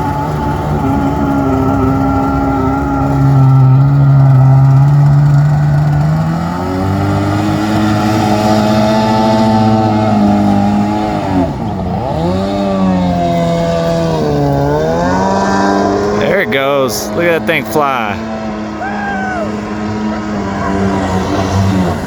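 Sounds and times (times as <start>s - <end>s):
small boat engine running hard: 0.0s - 22.0s.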